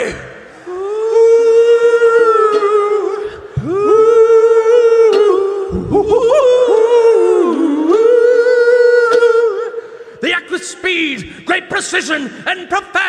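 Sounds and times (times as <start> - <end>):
person singing wordlessly: 0.0 - 13.0.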